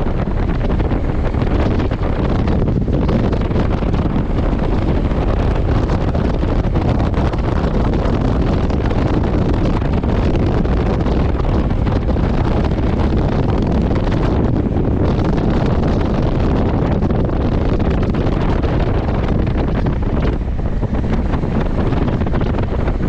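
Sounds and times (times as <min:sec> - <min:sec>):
motorcycle engine: 0:00.0 - 0:23.0
road noise: 0:00.0 - 0:23.0
wind rush on microphone: 0:00.0 - 0:23.0.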